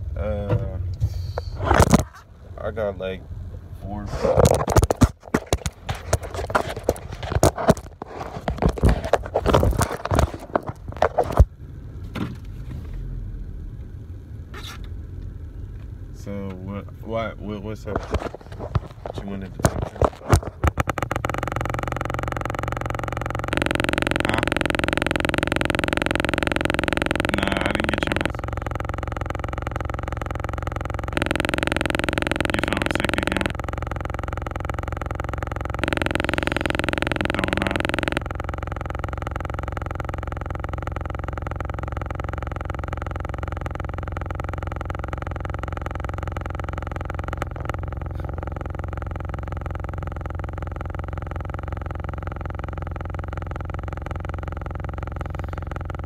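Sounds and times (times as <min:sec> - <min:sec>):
car cabin drone: 0:00.0 - 0:56.0.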